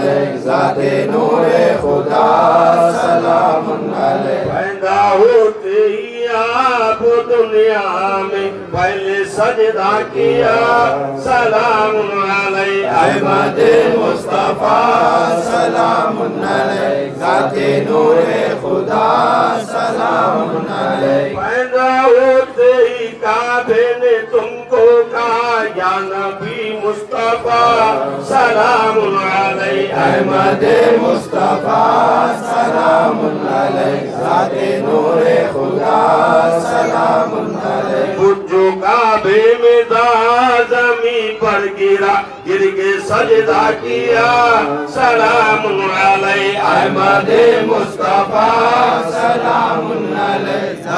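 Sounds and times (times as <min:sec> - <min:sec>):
men chanting: 0:00.0 - 0:50.9.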